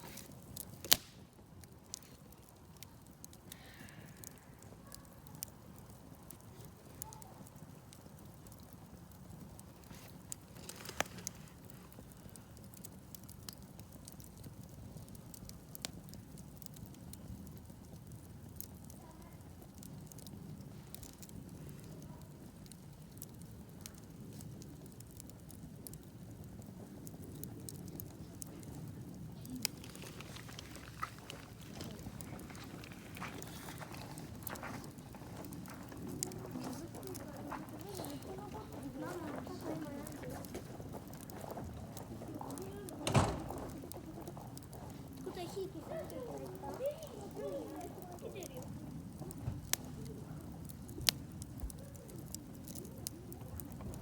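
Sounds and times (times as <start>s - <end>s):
campfire crackling and popping: 0.0s - 54.0s
low rustle of flames: 0.0s - 54.0s.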